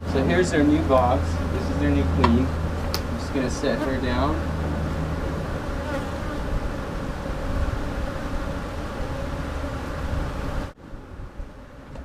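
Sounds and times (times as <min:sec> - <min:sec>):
bees buzzing: 0:00.0 - 0:10.8
wind rumbling on microphone: 0:00.0 - 0:12.0.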